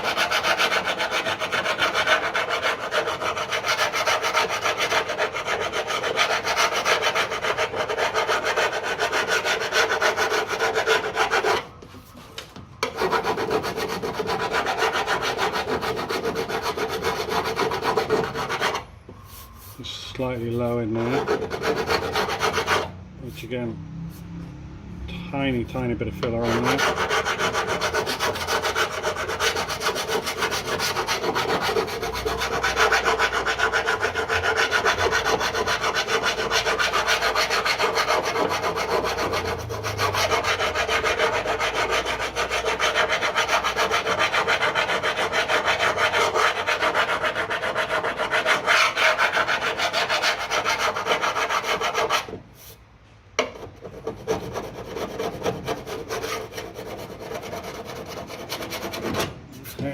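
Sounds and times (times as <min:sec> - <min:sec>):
sanding block rubbing filler: 0:00.0 - 0:11.7, 0:12.8 - 0:23.5, 0:26.3 - 0:52.7, 0:53.7 - 0:59.3.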